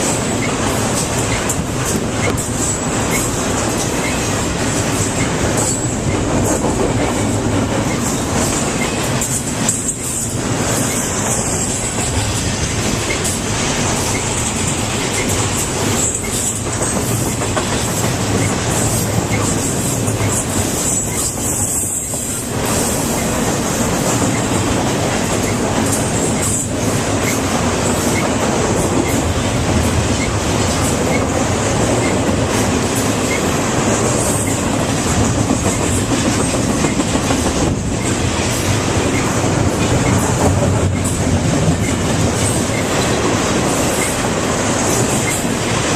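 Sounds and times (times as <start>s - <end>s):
train rolling on rails: 0.0s - 45.9s.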